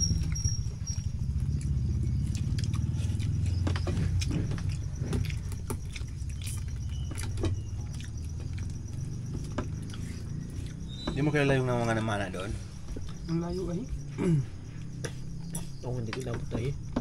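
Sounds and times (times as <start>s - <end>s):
clicks and taps of eating: 0.0s - 13.4s, 14.8s - 17.0s
faint insect trill: 0.0s - 17.0s
low motor hum: 0.0s - 17.0s.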